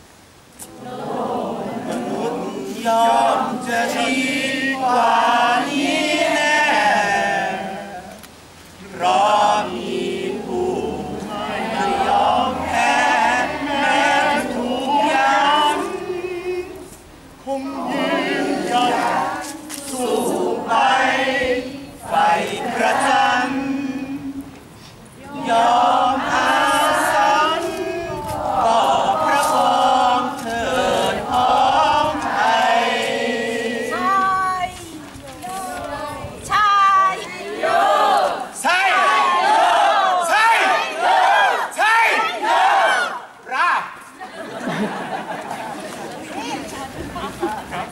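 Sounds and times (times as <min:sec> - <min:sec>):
crowd singing together: 0:00.6 - 0:43.4, 0:44.1 - 0:47.9.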